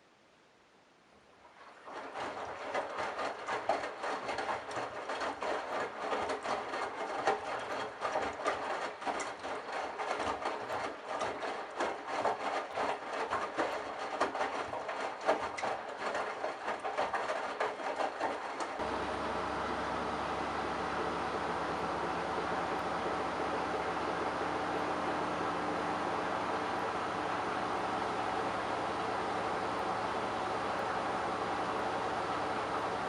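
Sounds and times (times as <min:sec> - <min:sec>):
washing machine drum tumbling towels: 0:01.5 - 0:33.0.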